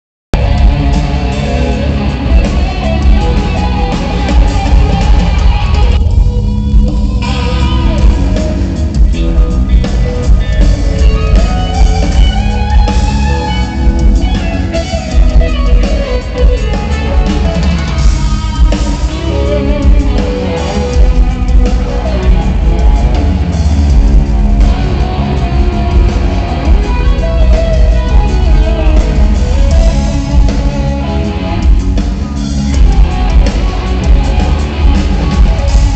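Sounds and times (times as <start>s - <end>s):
rock band playing: 0.3s - 35.9s
loud electric guitar: 0.4s - 35.9s.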